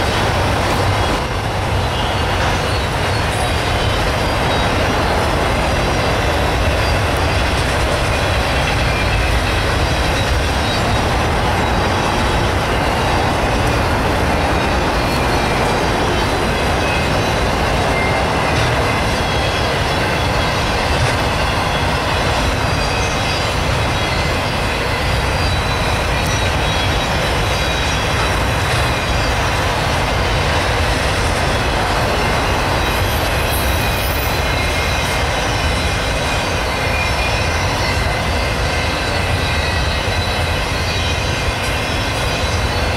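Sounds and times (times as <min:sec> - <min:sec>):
freight train rumbling past: 0:00.0 - 0:42.9
wheels squealing on rails: 0:00.0 - 0:42.9.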